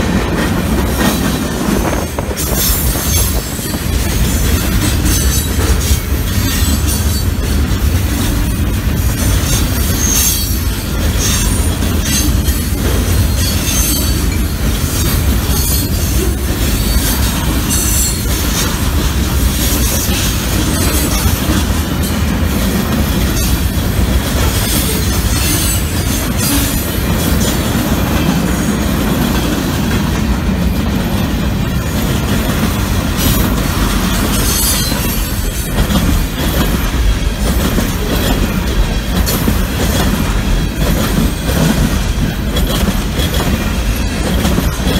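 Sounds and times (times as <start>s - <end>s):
steel wheels rumbling on rail: 0.0s - 44.9s
train wheel squeal: 0.9s - 22.3s, 23.0s - 28.3s, 31.9s - 44.9s.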